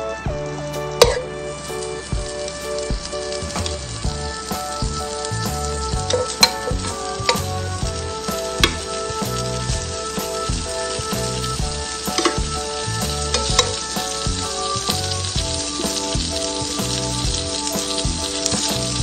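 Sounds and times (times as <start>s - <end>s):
background music with bass: 0.0s - 19.0s
meat sizzling in a frying pan: 0.7s - 19.0s.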